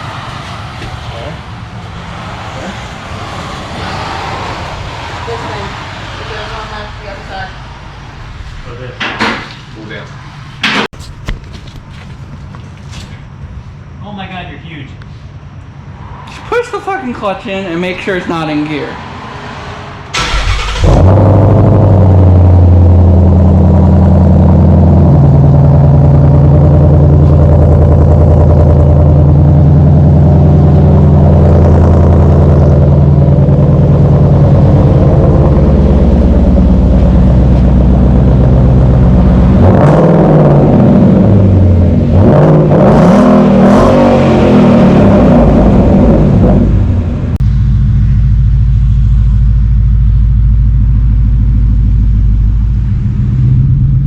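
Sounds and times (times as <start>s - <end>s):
car engine starting and revving: 0.0s - 8.6s, 18.7s - 54.0s.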